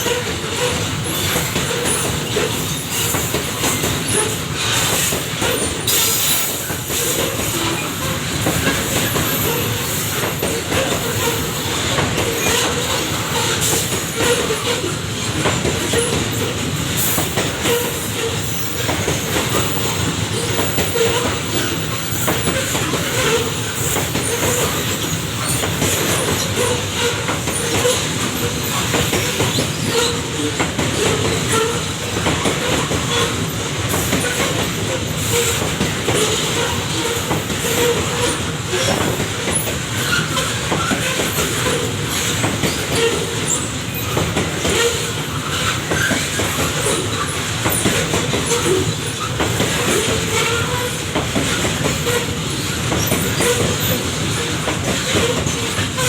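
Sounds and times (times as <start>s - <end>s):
wheel squeal: 0.0s - 33.5s, 34.1s - 56.0s.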